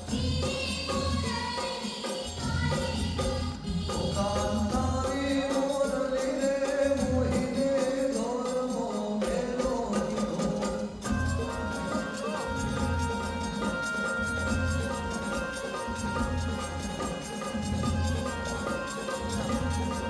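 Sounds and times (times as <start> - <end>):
drums beating: 0.0 - 20.0
jingling percussion: 0.0 - 20.0.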